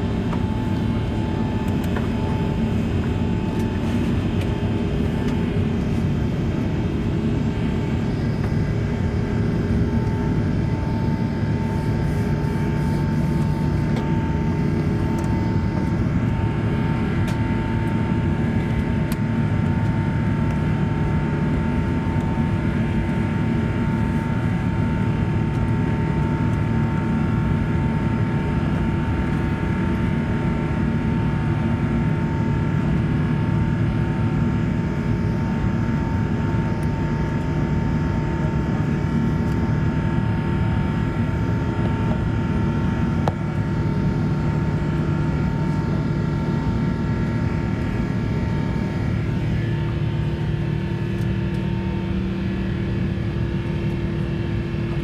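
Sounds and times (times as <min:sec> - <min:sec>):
airplane cabin drone: 0:00.0 - 0:55.0
steady engine whine: 0:00.0 - 0:55.0.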